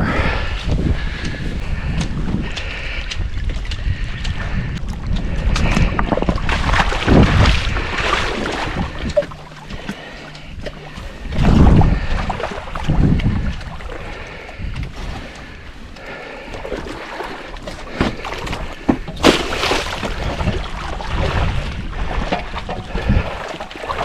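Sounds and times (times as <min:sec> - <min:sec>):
wind on microphone: 0:00.0 - 0:15.9, 0:18.0 - 0:24.0
lake water splashing: 0:02.6 - 0:24.0.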